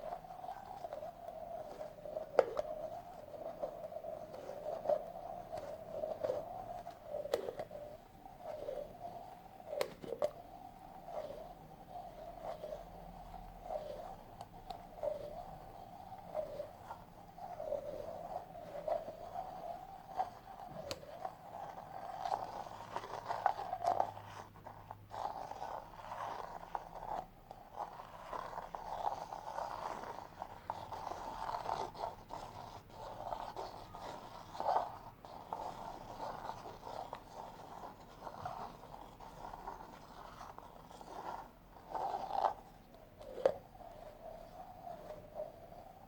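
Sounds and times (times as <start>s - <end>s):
soft scratching and scraping: 0.0s - 46.0s.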